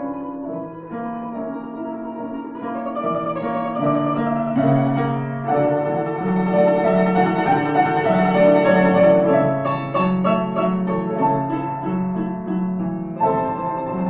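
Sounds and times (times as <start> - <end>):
slow solo piano piece: 0.0 - 14.0.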